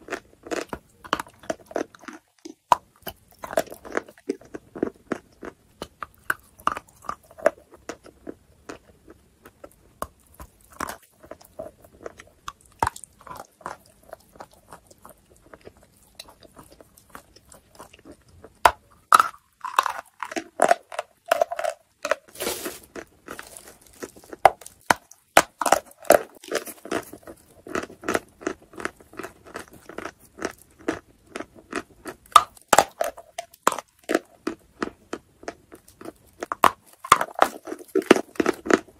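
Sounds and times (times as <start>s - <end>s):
chewing chalk crunches: 0.0s - 38.9s.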